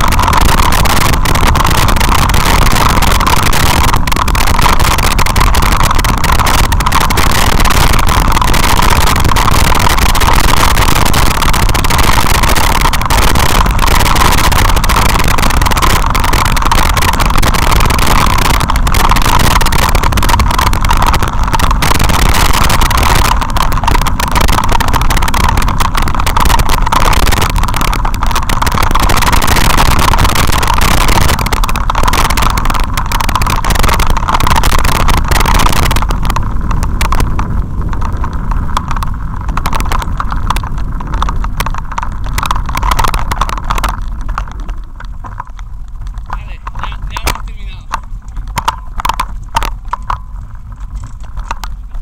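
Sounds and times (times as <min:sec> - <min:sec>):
vehicle rattling on gravel: 0:00.0 - 0:52.0.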